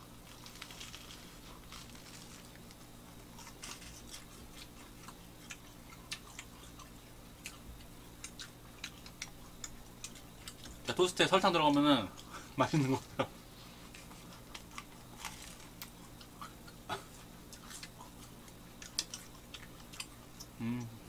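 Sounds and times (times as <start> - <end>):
people chewing toast: 0.0 - 21.0.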